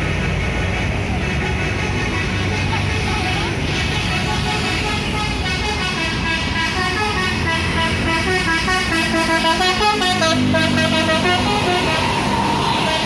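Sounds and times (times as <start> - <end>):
bus musical horn tune: 1.4 - 13.0.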